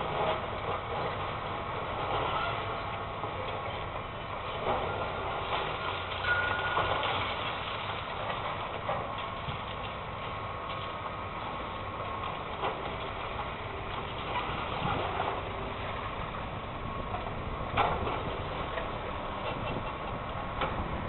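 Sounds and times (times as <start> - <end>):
excavator running: 0.0 - 21.0.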